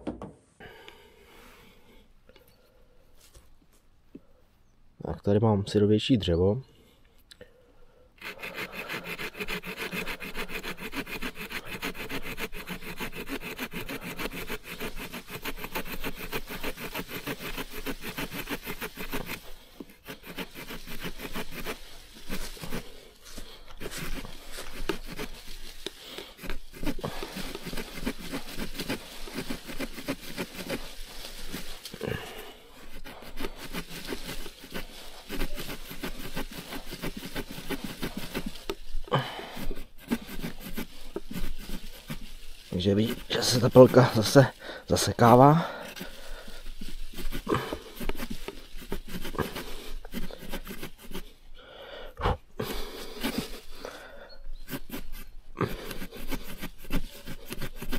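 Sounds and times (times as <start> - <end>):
saw blade sawing branch: 8.2 - 51.4, 52.6 - 54.0, 54.6 - 57.9.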